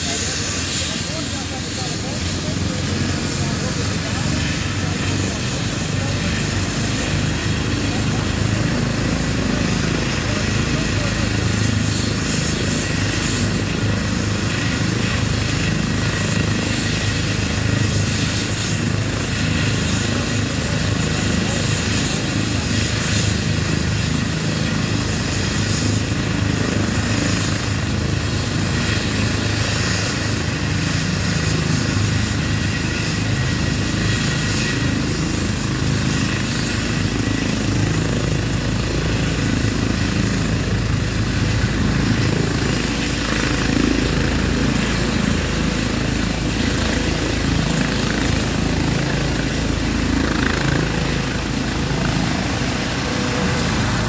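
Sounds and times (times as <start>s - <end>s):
helicopter rotors turning: 0.0s - 54.0s
high turbine whine: 0.0s - 54.0s.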